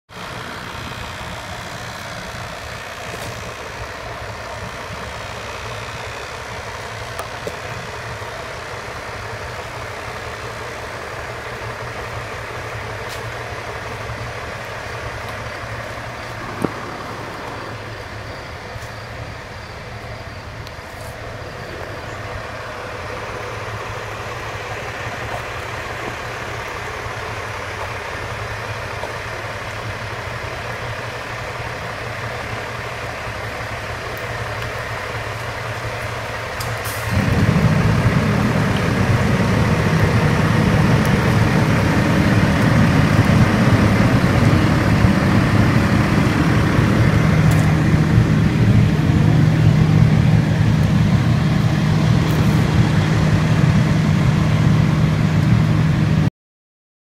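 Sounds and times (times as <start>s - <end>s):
engine running low rumble: 0.1s - 56.3s
steady low hum: 0.2s - 56.3s.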